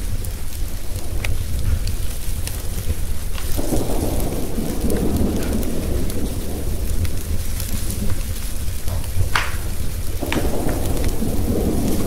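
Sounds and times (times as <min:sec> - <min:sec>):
low thunder rumble: 0:00.0 - 0:12.0
steady rain: 0:00.0 - 0:12.0
wood fire crackling: 0:00.0 - 0:12.0.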